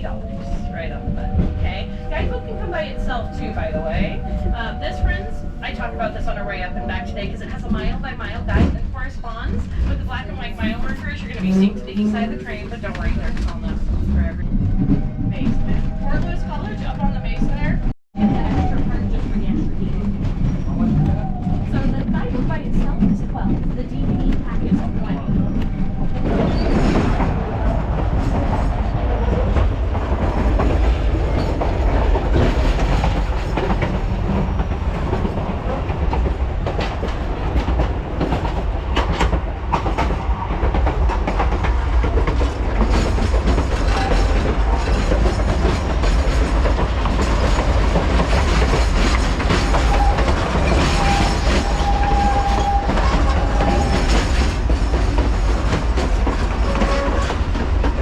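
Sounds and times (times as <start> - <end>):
train wheels clacking on rails: 0.0 - 58.0.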